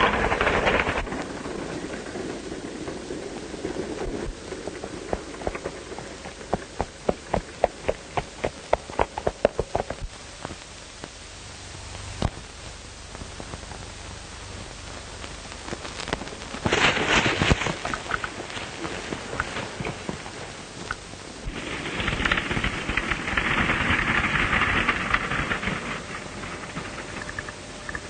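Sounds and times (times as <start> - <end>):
horse hooves galloping on dirt: 0.0 - 10.6, 13.1 - 28.0
film soundtrack hiss: 0.0 - 28.0.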